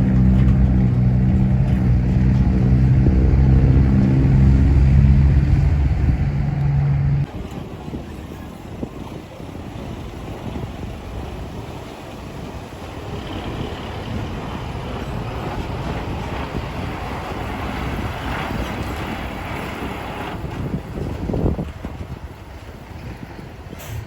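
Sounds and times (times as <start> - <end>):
dump truck engine and tyres: 0.0 - 24.0
wind buffeting microphone: 0.0 - 24.0.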